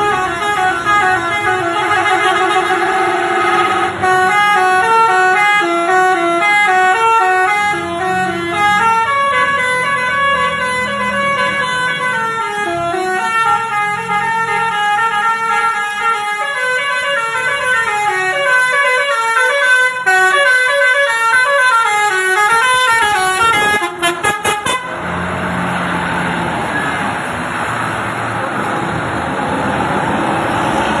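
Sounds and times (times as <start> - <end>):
multi-tone bus horn melody: 0.0 - 25.2.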